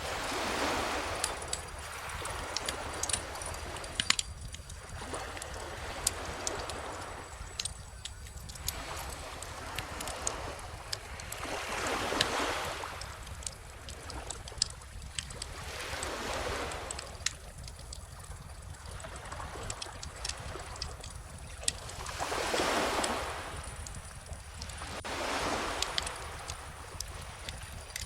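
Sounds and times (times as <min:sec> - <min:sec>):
small waves washing ashore: 0:00.0 - 0:28.0
wood fire crackling and popping: 0:00.1 - 0:28.0.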